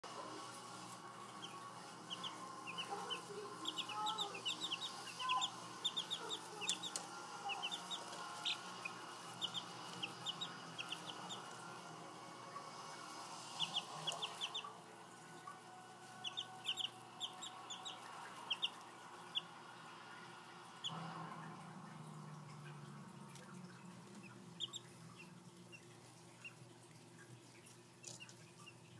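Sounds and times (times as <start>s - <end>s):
chicks peeping: 0.0s - 21.0s, 22.6s - 26.6s, 27.4s - 28.9s.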